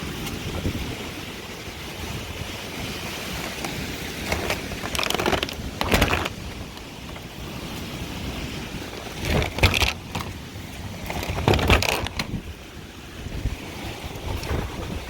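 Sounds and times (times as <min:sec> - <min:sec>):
strong wind blowing across microphone: 0:00.0 - 0:15.0.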